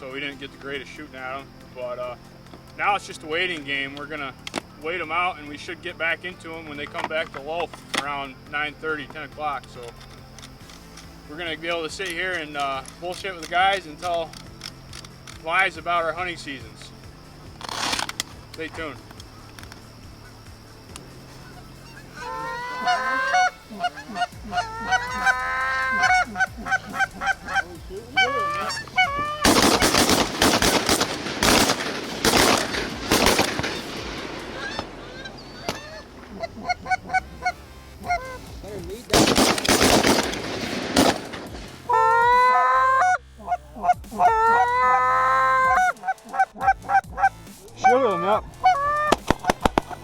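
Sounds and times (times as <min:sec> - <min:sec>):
geese honking: 0:01.5 - 0:50.0.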